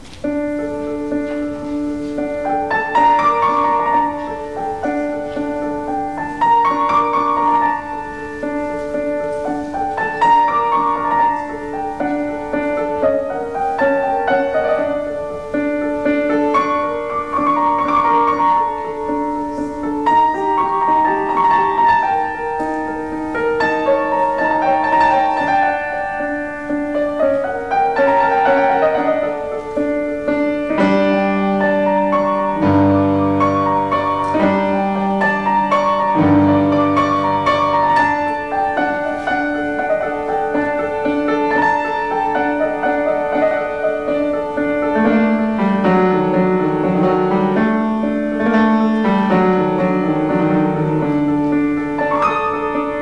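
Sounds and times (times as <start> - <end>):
slow solo piano piece: 0.0 - 53.0.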